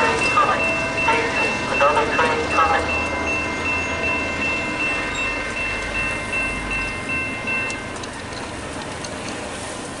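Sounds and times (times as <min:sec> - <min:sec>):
crossing bell ringing: 0:00.0 - 0:09.5.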